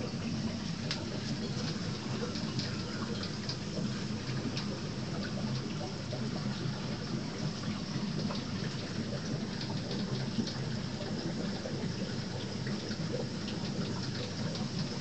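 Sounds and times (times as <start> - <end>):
small crackling drips: 0.0 - 15.0
water running and splashing: 0.0 - 15.0.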